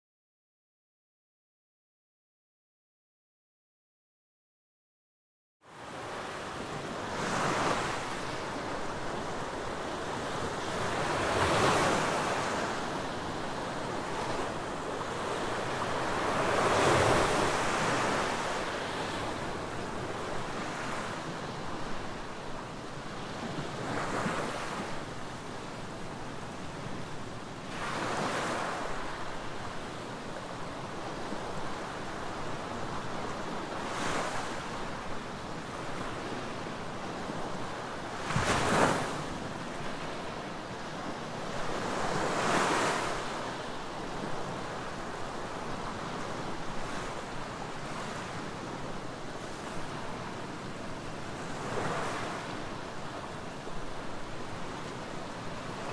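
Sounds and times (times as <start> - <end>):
small waves washing on beach: 5.8 - 55.9.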